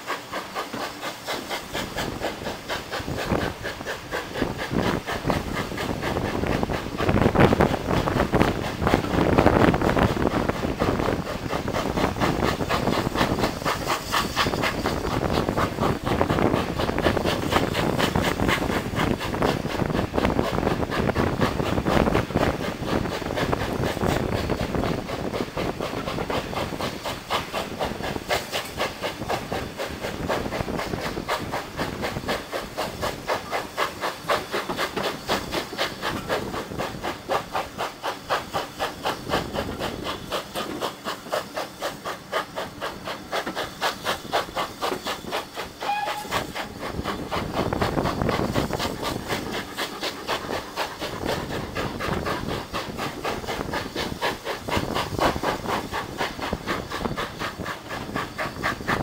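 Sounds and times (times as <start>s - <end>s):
steam hiss: 0.0s - 59.0s
steam locomotive chuffing: 0.0s - 59.0s.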